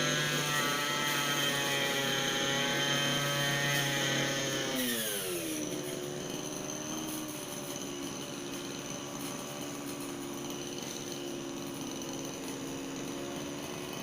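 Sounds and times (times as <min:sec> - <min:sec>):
brush cutter engine revving: 0:00.0 - 0:14.0.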